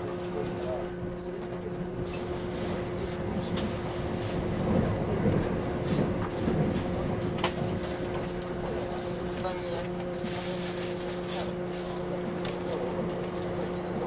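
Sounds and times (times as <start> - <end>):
constant hums: 0.0 - 14.0
train running rumble: 0.0 - 14.0.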